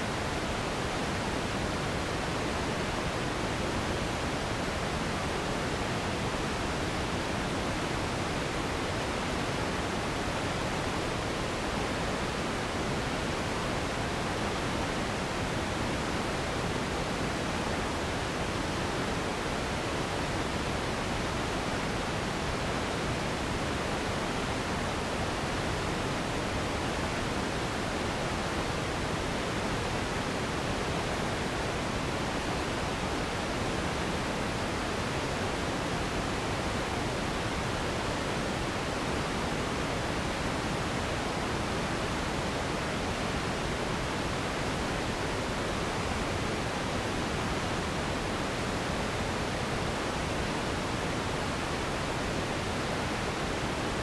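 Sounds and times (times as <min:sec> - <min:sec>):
steady rushing hiss noise: 0:00.0 - 0:54.0.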